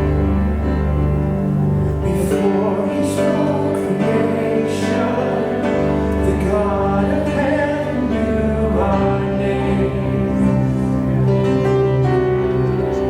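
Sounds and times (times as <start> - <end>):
choir singing worship song: 2.0 - 13.0.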